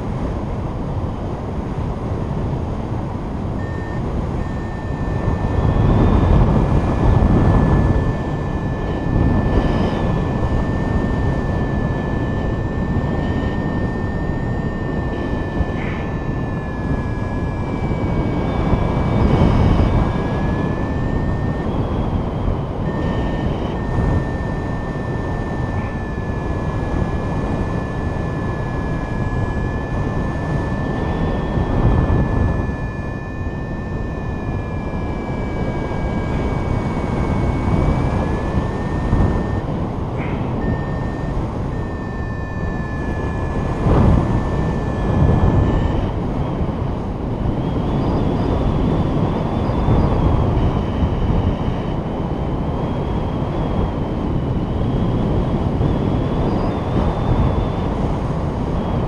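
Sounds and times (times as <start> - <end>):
thin steady high tone: 0.0 - 59.0
wind rushing over microphone: 0.0 - 59.0.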